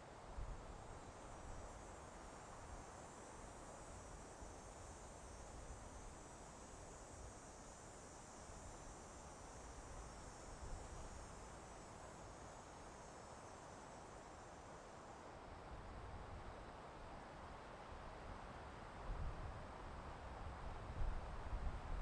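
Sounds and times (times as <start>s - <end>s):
soft wind in a forest: 0.0s - 22.0s.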